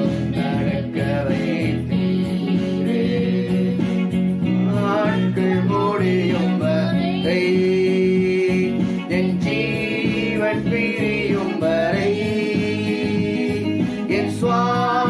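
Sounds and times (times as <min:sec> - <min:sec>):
worship song with instruments: 0:00.0 - 0:15.0.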